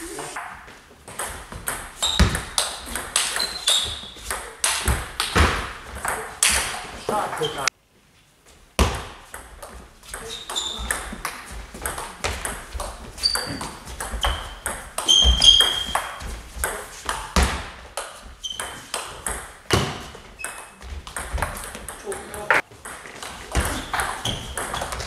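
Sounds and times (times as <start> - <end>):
shoes squeaking on floor: 0.0 - 7.7, 9.7 - 25.0.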